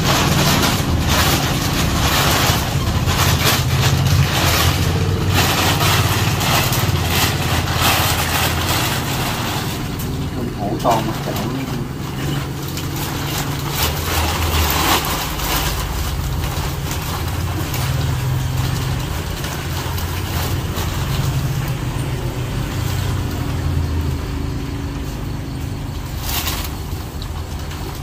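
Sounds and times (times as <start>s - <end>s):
plastic bag crinkling: 0.0s - 28.0s.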